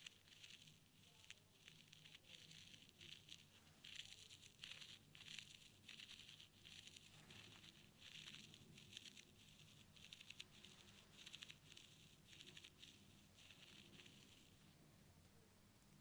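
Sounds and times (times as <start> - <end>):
scratchy ear-cleaning rustling: 0.0 - 14.7.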